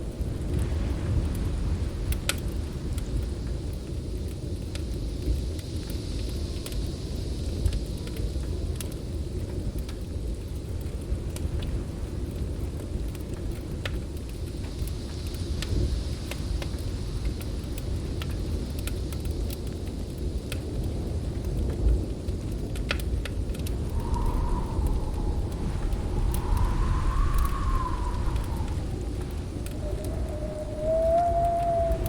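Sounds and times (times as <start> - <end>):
snowstorm wind blowing: 0.0 - 32.0
wood fire crackling and popping: 0.0 - 32.0.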